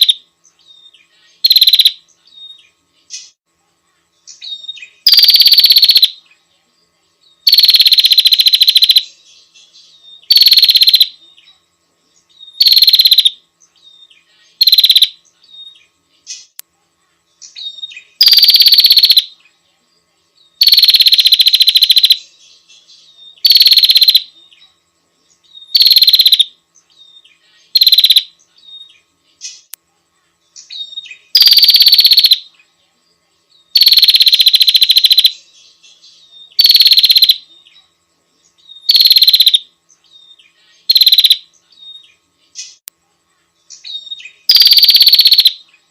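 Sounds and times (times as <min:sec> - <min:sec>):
bird buzzy calls: 0:00.0 - 0:03.4, 0:04.3 - 0:06.3, 0:07.4 - 0:11.6, 0:12.2 - 0:16.6, 0:17.4 - 0:19.4, 0:20.6 - 0:24.7, 0:25.4 - 0:29.8, 0:30.6 - 0:32.6, 0:33.7 - 0:42.9, 0:43.7 - 0:45.9
soft bird chirps: 0:00.0 - 0:45.9.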